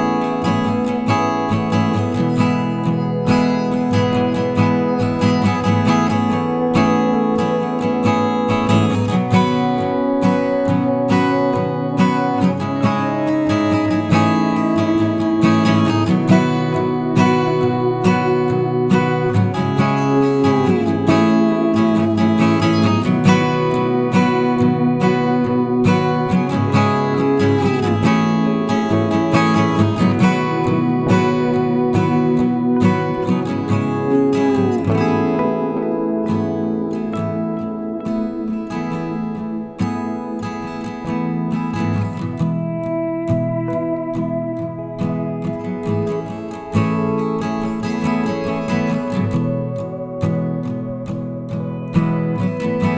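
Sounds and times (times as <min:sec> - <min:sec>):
acoustic guitar music: 0:00.0 - 0:52.9.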